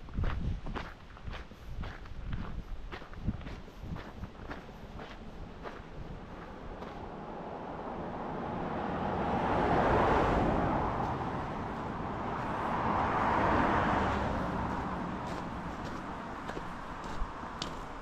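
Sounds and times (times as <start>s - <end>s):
vehicles passing by: 1.0s - 18.0s.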